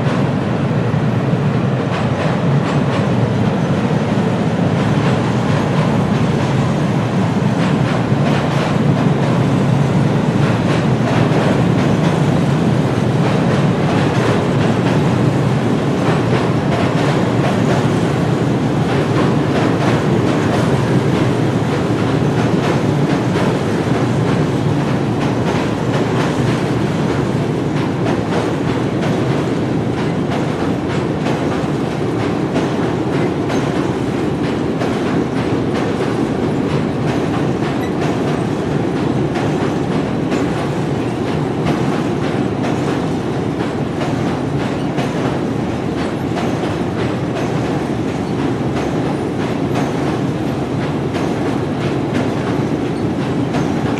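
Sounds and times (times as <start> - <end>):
train rumbling along track: 0.0 - 53.9
wheels clacking over rails: 1.8 - 53.9.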